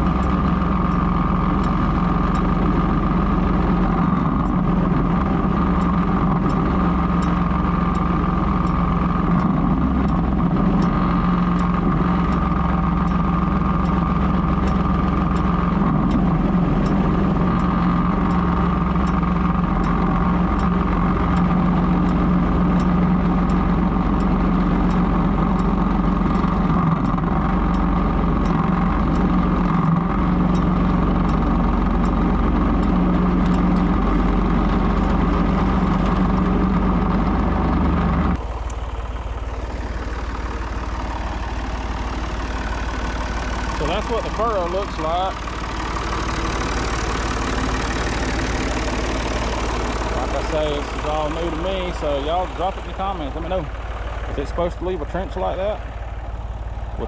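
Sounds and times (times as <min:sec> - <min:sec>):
faint regular ticking: 0:00.0 - 0:37.2, 0:38.3 - 0:57.0
tractor engine running: 0:00.0 - 0:57.0.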